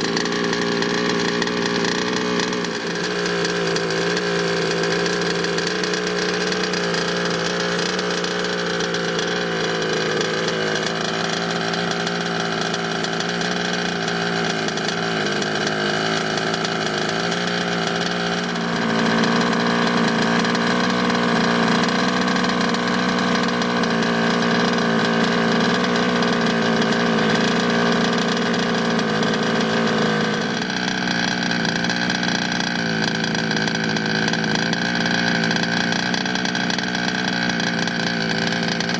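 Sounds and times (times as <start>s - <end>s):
two-stroke engine idling: 0.0s - 38.9s.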